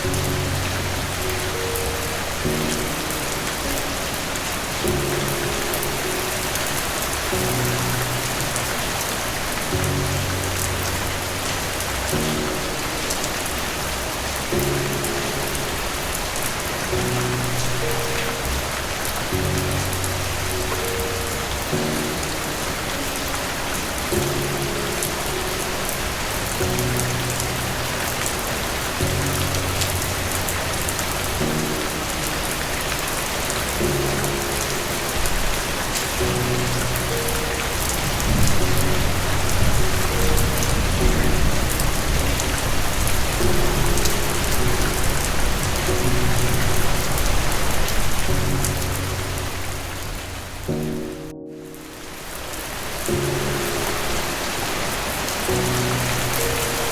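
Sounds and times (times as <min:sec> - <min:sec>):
thunder rumbling: 0:00.0 - 0:50.9
soft low music notes: 0:00.0 - 0:56.9
steady rain falling: 0:00.0 - 0:56.9.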